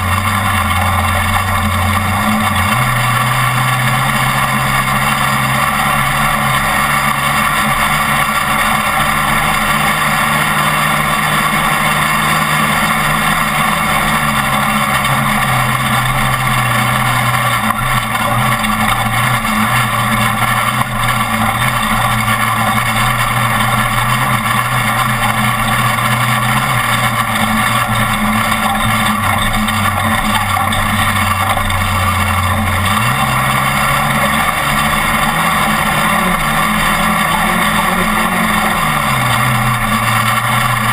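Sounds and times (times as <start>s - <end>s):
road noise: 0.0s - 40.9s
truck engine running hard: 0.0s - 40.9s.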